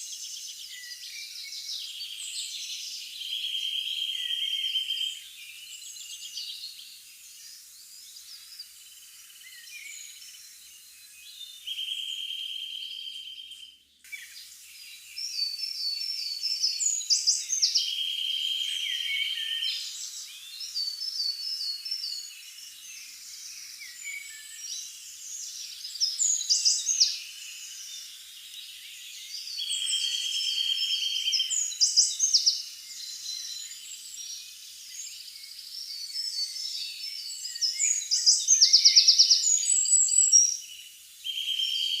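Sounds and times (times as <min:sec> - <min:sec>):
wild birds chirping and trilling: 0:00.0 - 0:42.0.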